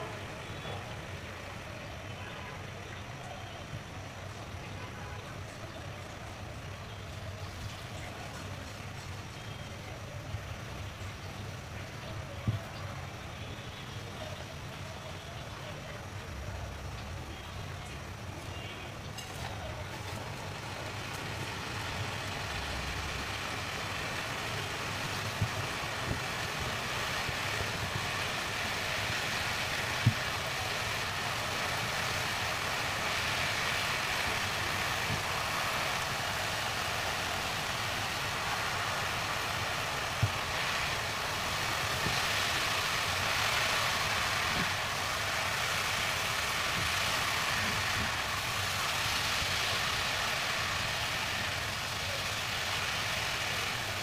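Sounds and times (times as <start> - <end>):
vermicelli sizzling in a pan: 0.0 - 54.0.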